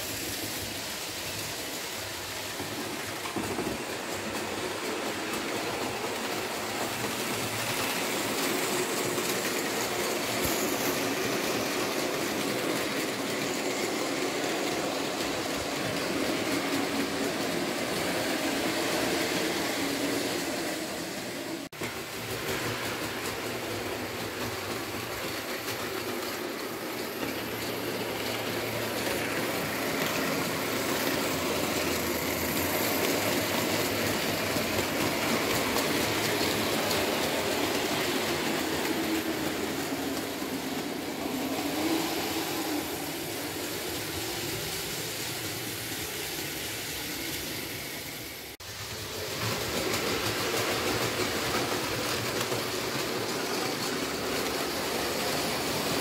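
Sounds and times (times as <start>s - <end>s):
model train wheels rumbling on track: 0.0s - 56.0s.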